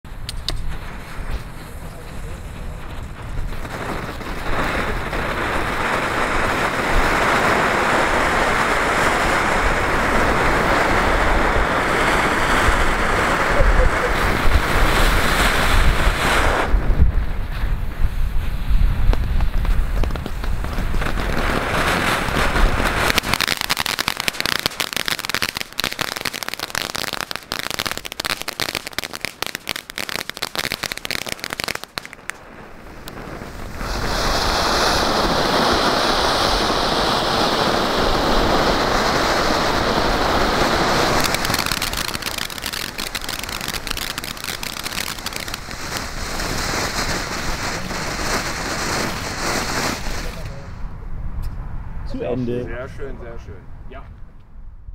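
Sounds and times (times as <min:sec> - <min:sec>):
firework fountains hissing: 0:00.1 - 0:50.9
firework crackling: 0:00.1 - 0:51.0.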